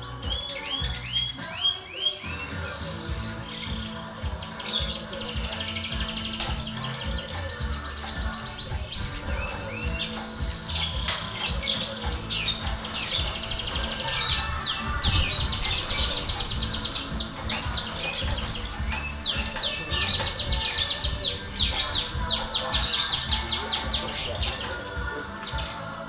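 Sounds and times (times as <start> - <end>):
bird trill: 0.0 - 26.0
faint music: 0.0 - 26.0
songbirds chirping: 0.0 - 26.0.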